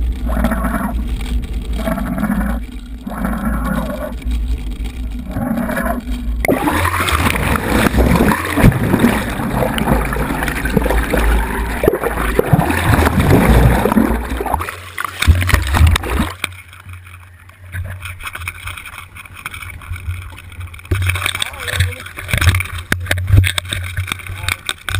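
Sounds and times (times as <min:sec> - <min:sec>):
low hum: 0:00.0 - 0:24.9
water rushing and gurgling: 0:00.0 - 0:24.9.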